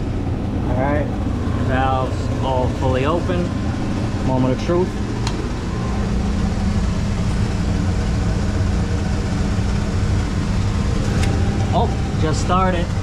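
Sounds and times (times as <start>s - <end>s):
boiler machinery drone: 0.0s - 13.0s.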